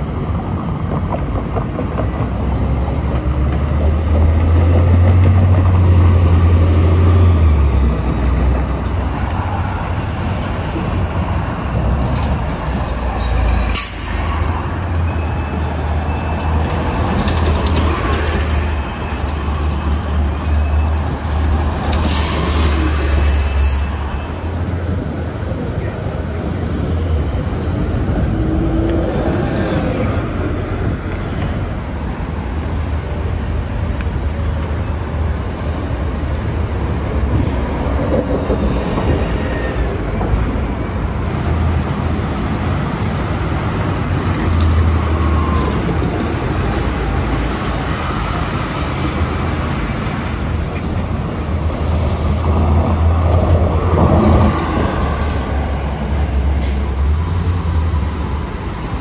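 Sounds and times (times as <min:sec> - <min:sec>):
buses and cars passing: 0:00.0 - 0:59.0.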